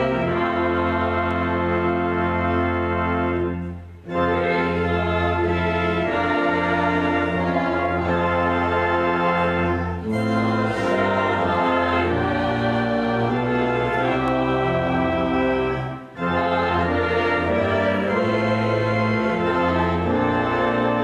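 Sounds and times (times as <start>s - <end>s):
church organ playing chords: 0.0s - 21.0s.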